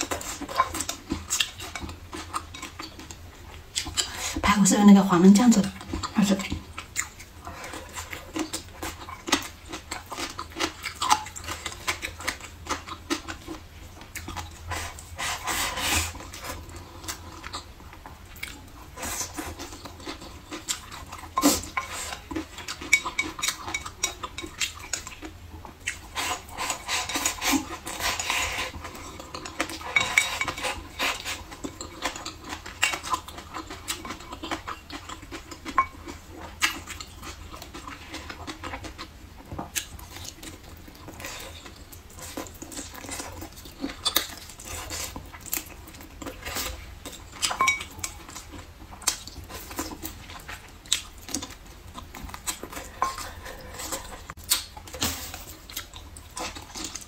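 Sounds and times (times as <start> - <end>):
chewing food: 0.0 - 57.0.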